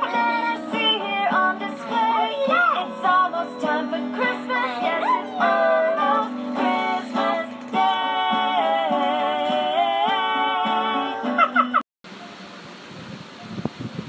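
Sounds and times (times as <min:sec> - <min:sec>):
person singing: 0:00.0 - 0:11.5
steady musical accompaniment: 0:00.0 - 0:11.6.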